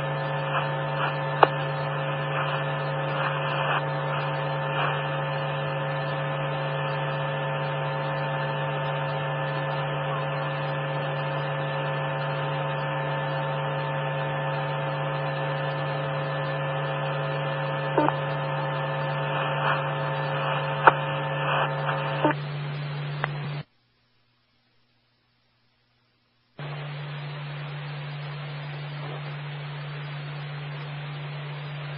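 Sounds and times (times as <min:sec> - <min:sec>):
radio hum: 0:00.0 - 0:23.7, 0:26.5 - 0:31.9
faint steady tones: 0:00.0 - 0:31.9.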